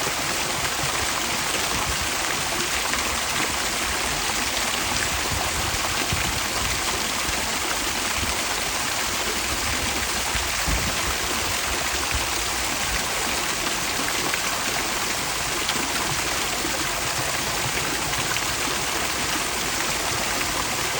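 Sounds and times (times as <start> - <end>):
fountain water splashing: 0.0 - 20.9.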